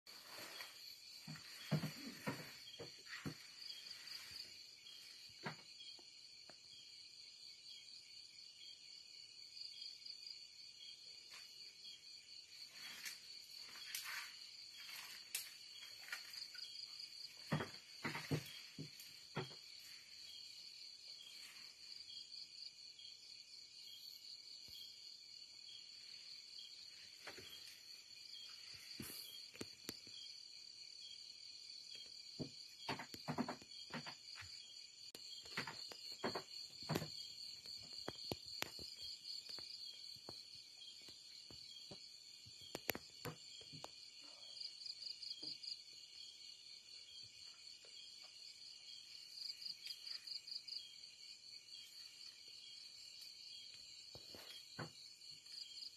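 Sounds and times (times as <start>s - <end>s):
crickets trilling: 0.1s - 55.9s.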